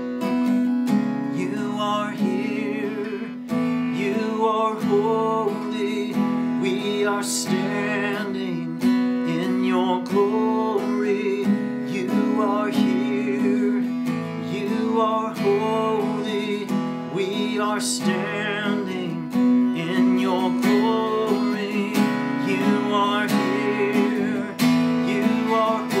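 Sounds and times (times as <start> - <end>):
acoustic guitar strumming: 0.0 - 26.0
man singing: 1.2 - 26.0.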